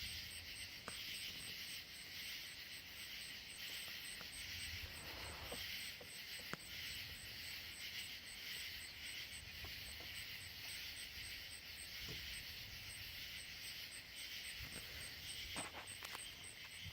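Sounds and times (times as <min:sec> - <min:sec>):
high hiss of insects: 0:00.0 - 0:16.9
insect chirping evenly: 0:00.0 - 0:16.9.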